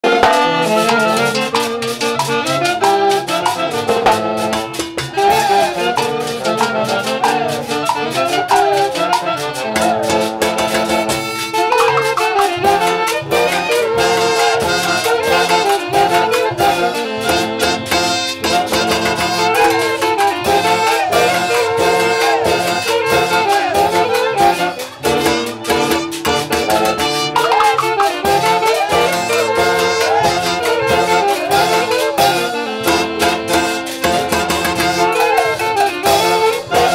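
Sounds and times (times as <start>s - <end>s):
festive brass orchestra music: 0.0s - 36.9s
percussion beat: 0.0s - 36.9s
trumpets and saxophones playing: 0.0s - 36.9s.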